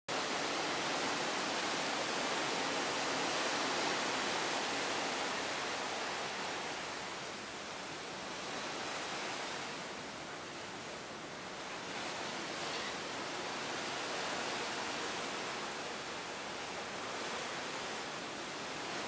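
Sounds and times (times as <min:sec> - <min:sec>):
sea water rushing along hull: 0:00.1 - 0:19.0.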